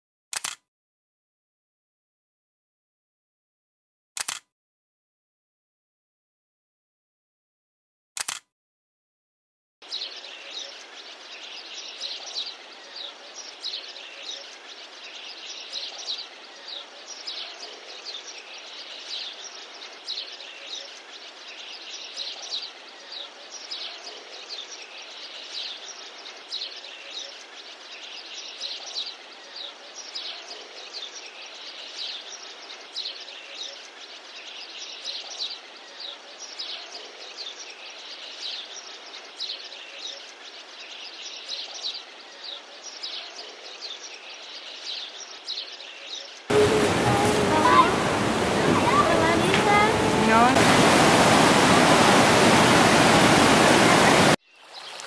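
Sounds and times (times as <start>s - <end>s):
outdoor background hiss: 9.8s - 54.9s
small birds chirping: 9.8s - 55.0s.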